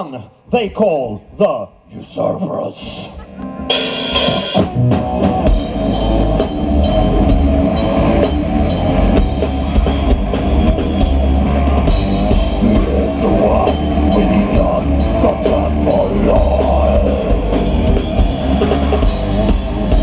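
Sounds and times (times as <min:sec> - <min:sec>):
death metal band playing live: 0:03.5 - 0:20.0.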